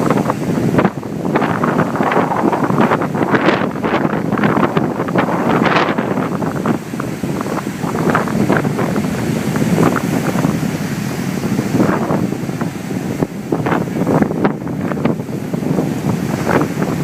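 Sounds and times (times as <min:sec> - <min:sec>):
choppy surf: 0:00.0 - 0:17.0
wind buffeting microphone: 0:00.0 - 0:17.0.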